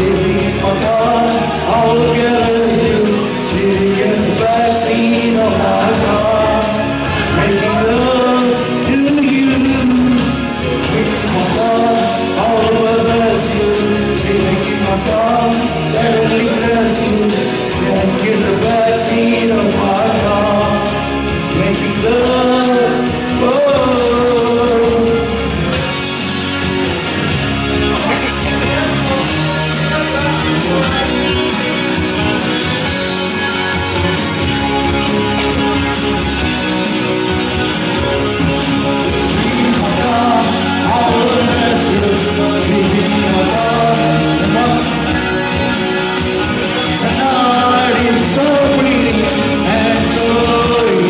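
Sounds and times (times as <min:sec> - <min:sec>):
man singing into microphone: 0:00.0 - 0:35.2, 0:36.2 - 0:51.0
backing music with drum beat: 0:00.0 - 0:51.0.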